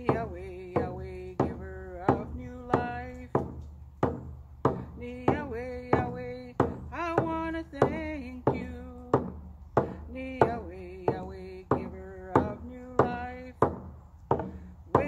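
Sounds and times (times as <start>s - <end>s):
woman singing long notes: 0.0s - 3.4s, 4.7s - 13.6s, 14.4s - 15.0s
hand drum struck with beater: 0.0s - 15.0s.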